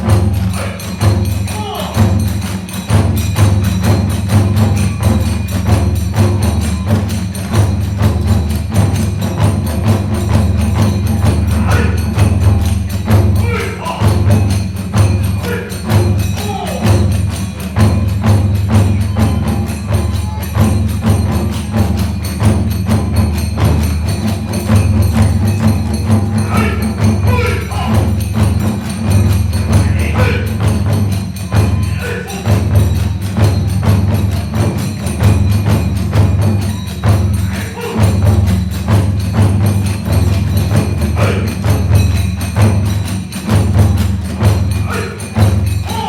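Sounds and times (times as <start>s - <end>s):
hand cymbals clashing: 0.0s - 46.0s
taiko drums beating: 0.0s - 46.0s.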